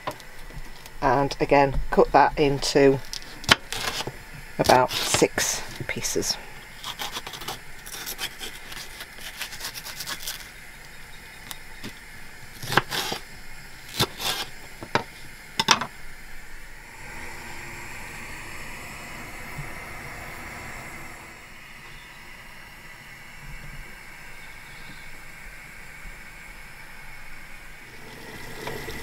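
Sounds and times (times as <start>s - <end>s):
pan of potatoes hissing: 1.9s - 29.0s.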